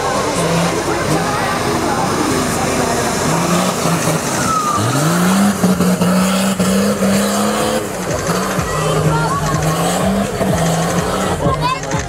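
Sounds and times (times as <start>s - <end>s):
vehicle engine revving under load: 0.0s - 12.0s.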